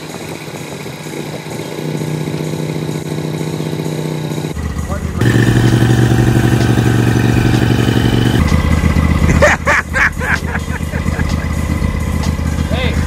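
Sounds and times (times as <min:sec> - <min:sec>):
lawn tractor engine running: 0:00.3 - 0:12.8.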